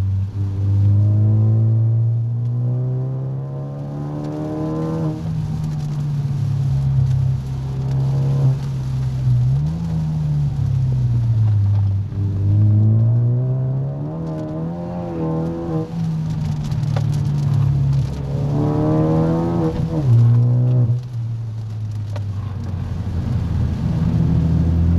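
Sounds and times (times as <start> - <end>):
car engine from inside cabin: 0.0 - 24.9.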